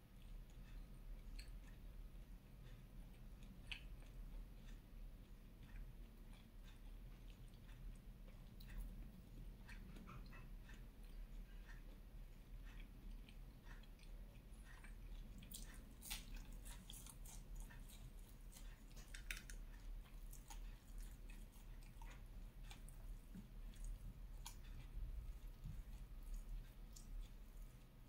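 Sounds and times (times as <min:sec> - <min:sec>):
soft food clicks and crackles: 0:00.0 - 0:28.0.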